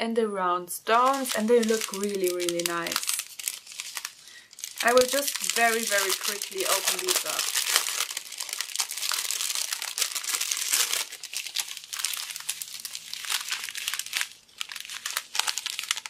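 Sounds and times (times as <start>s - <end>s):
plastic packaging crinkling: 0.9s - 16.0s.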